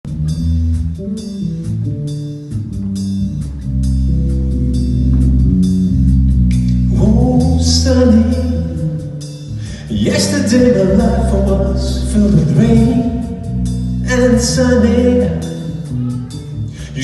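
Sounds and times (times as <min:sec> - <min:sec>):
bass notes: 0:00.0 - 0:17.0
drum kit and cymbals: 0:00.1 - 0:17.0.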